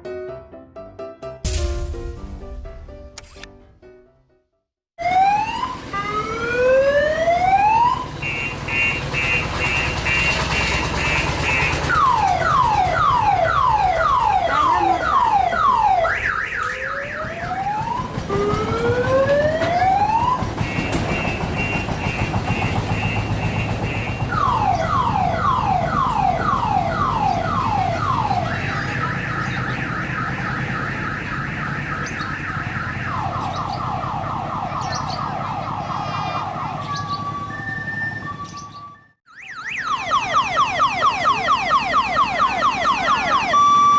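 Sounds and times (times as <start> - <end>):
electronic multi-tone siren: 5.0 - 43.9.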